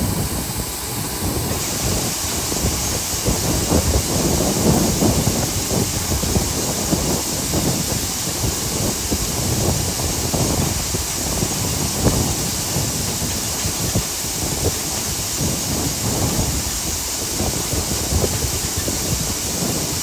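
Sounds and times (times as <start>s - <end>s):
tractor engine drone: 0.0s - 19.8s
high hiss: 0.0s - 20.0s.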